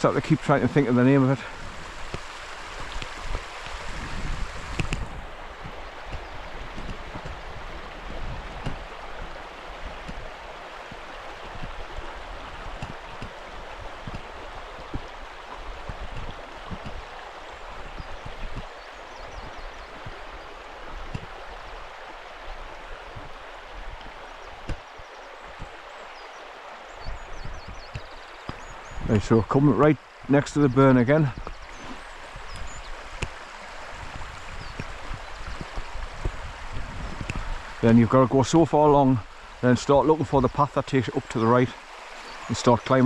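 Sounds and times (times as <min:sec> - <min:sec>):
stream rushing over stones: 0:00.0 - 0:43.0.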